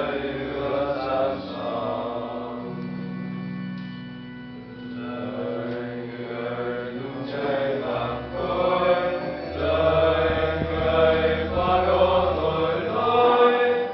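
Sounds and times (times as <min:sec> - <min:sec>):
men singing a liturgical chant: 0:00.0 - 0:02.8, 0:05.0 - 0:13.9.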